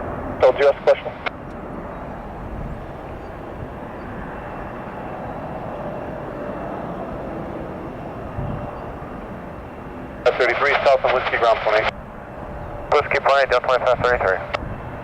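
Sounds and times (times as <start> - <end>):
jet engines running: 0.0 - 15.0
faint high whine: 1.9 - 15.0.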